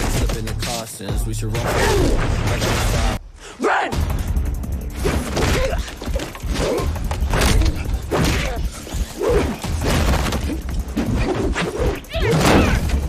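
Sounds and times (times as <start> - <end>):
music with heavy low beat: 0.0 - 3.2, 4.0 - 13.0.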